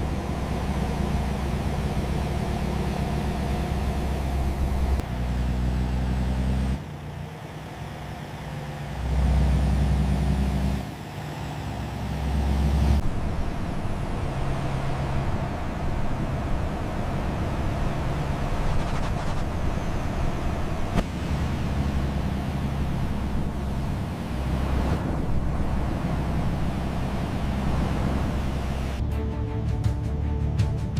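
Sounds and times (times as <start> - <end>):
vehicle engine rumble: 0.0 - 30.9.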